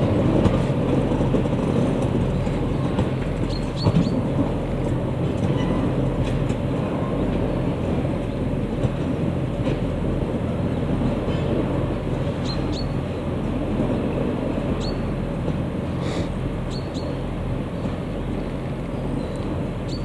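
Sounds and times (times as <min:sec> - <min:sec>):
railway wagons rumbling and rattling: 0:00.0 - 0:20.0.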